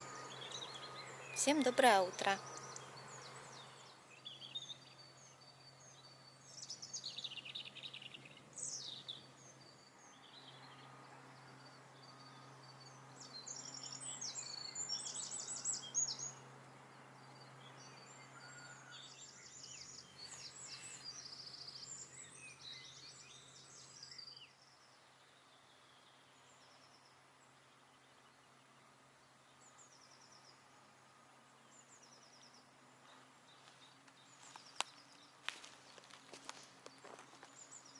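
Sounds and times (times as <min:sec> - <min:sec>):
songbirds chirping and trilling: 0:00.0 - 0:37.9.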